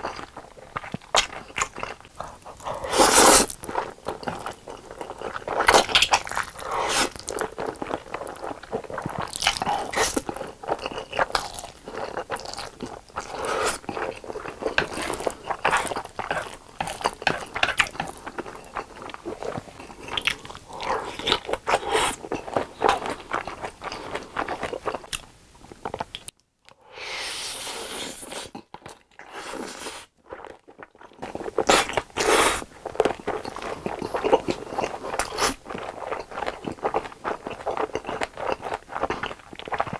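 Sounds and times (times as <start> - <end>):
person chewing noodles and sausage: 0.0 - 26.3, 27.2 - 39.9.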